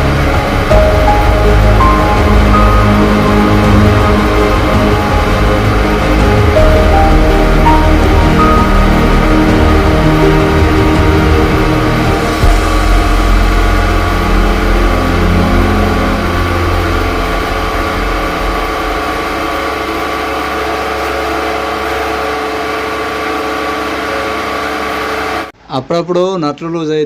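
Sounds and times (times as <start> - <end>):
grinder motor hum: 0.0 - 25.5.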